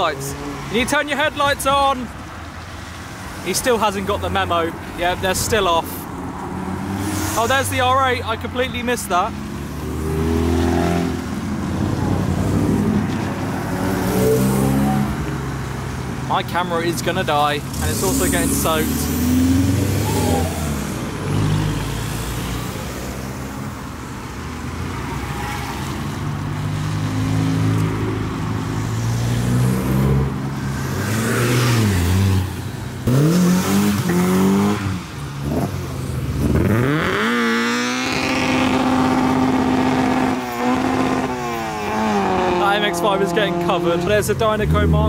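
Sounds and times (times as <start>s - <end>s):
car engines revving past: 0.0s - 1.1s, 4.2s - 8.2s, 9.0s - 16.3s, 16.9s - 45.0s.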